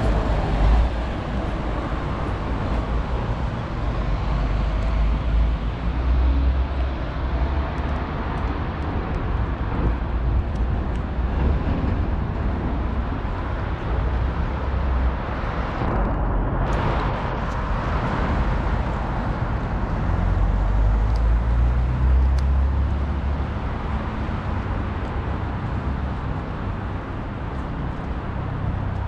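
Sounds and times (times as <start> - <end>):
city traffic noise: 0.0 - 29.0.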